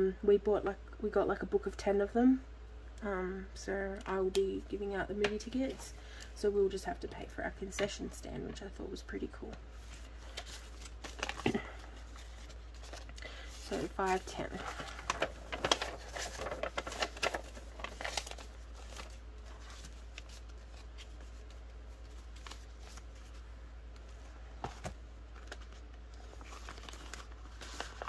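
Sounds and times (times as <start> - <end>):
banknotes rustling and crinkling: 3.9 - 28.0.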